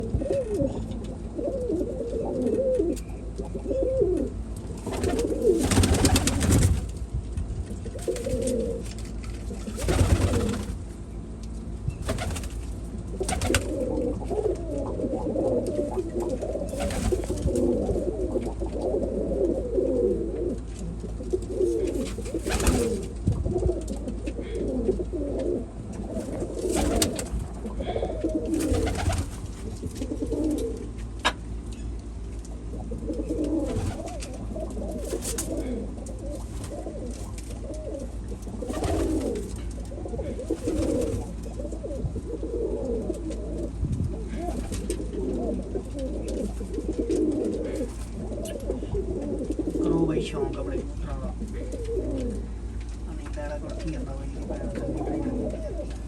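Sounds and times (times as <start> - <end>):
pigeons cooing: 0.0 - 7.0, 7.7 - 11.1, 12.0 - 53.0, 53.8 - 56.0.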